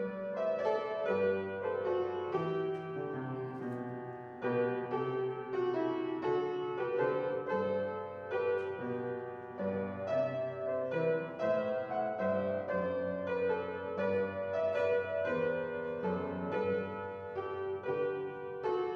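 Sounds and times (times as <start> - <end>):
slow solo piano piece: 0.0 - 18.9.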